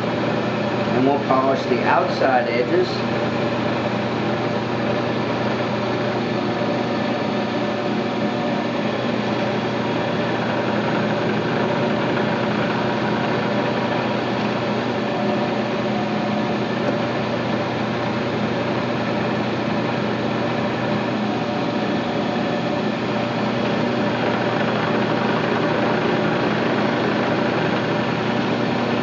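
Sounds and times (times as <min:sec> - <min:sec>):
milling machine hum with hiss: 0:00.0 - 0:29.0.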